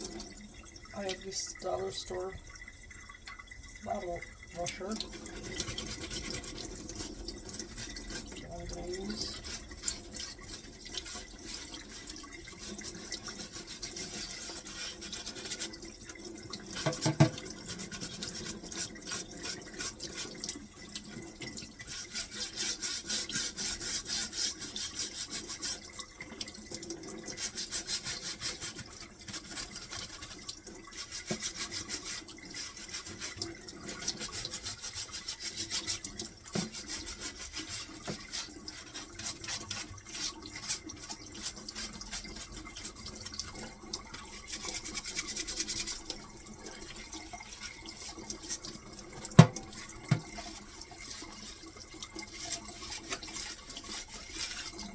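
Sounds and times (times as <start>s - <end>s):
brush scrubbing filter: 0.0s - 3.1s, 3.8s - 54.9s
running tap water: 0.0s - 54.9s.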